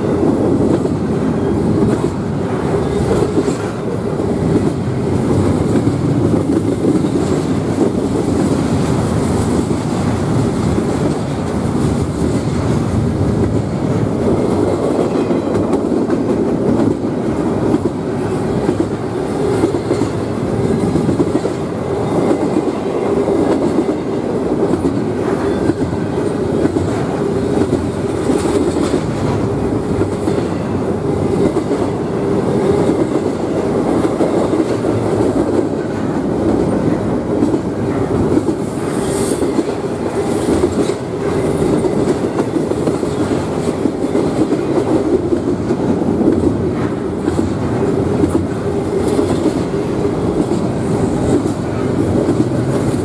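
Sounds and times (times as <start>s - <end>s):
train cars rumbling on rails: 0.0s - 53.0s.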